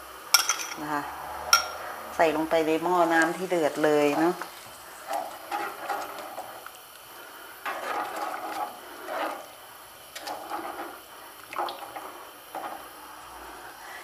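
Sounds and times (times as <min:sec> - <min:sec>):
liquid swishing in pan: 0:02.7 - 0:14.0.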